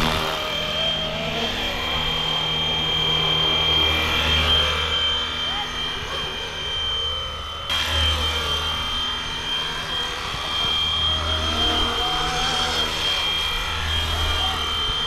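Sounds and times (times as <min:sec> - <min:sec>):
electric motor whine: 0:00.0 - 0:15.0
helicopter rotor whir: 0:00.0 - 0:15.0.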